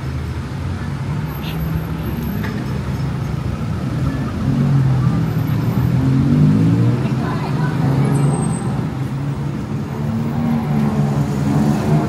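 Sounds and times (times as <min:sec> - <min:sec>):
general traffic noise: 0:00.0 - 0:12.0.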